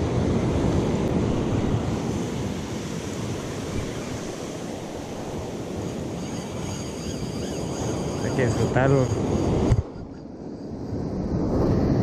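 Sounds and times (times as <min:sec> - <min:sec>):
ocean surf breaking: 0:00.0 - 0:12.0
wind on microphone: 0:00.0 - 0:12.0.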